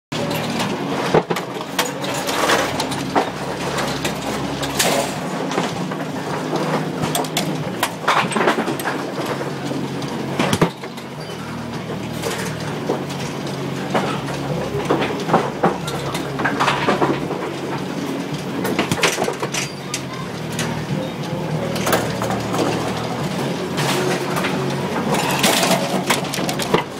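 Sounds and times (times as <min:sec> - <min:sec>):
machinery clatter of clicks: 0:00.2 - 0:26.9.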